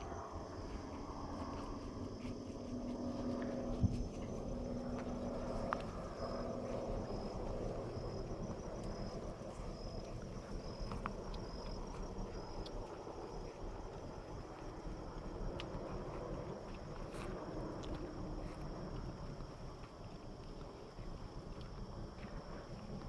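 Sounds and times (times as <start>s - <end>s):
wind on microphone: 0.0s - 20.7s
cricket chirping: 0.0s - 23.0s
footsteps walking: 0.0s - 23.0s
low steady hum: 0.0s - 23.0s.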